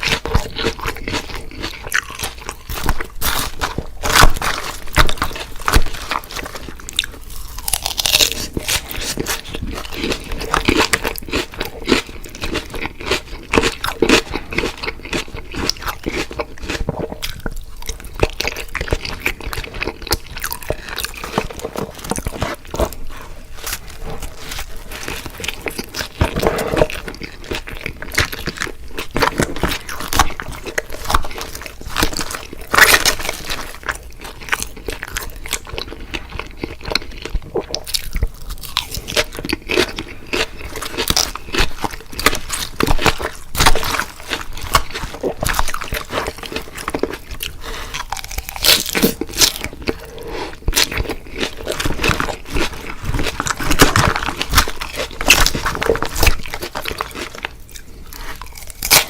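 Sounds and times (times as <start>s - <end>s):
crunching and chewing fried food: 0.0s - 59.0s.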